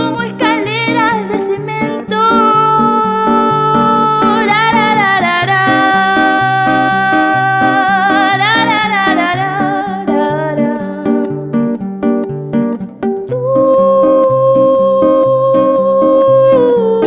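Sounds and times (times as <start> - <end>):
plucked acoustic guitar: 0.0 - 17.0
wavering held melody: 0.0 - 17.0.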